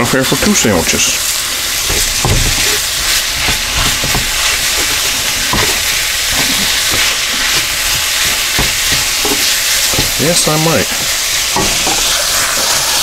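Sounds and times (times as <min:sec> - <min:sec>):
meat sizzling in a wok: 0:00.0 - 0:13.0
wooden spatula scraping a wok: 0:01.2 - 0:12.9.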